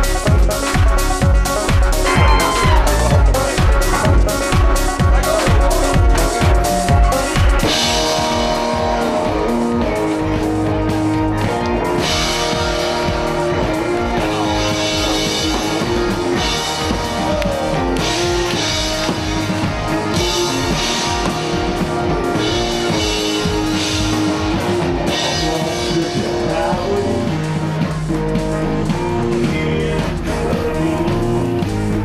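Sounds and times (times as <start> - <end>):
rock music with drums and guitar: 0.0 - 32.0.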